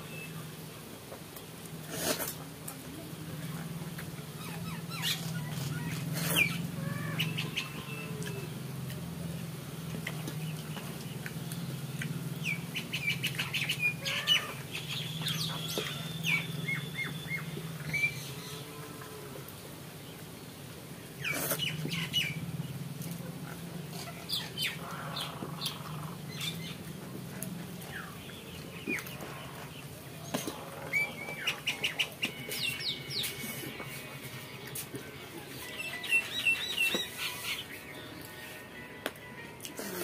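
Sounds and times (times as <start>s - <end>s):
low steady hum: 0.0s - 39.9s
small birds chirping: 3.4s - 19.0s, 20.0s - 33.6s, 35.6s - 38.6s.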